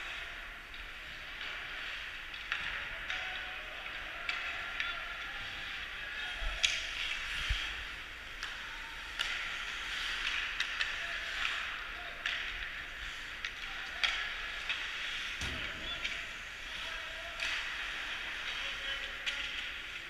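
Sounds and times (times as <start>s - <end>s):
hockey sticks and puck clacking: 0.0s - 20.0s.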